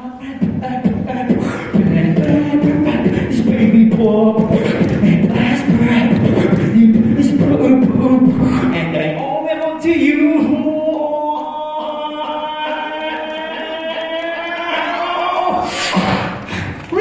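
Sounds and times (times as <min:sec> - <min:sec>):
man beatboxing into a microphone: 0:00.0 - 0:17.0.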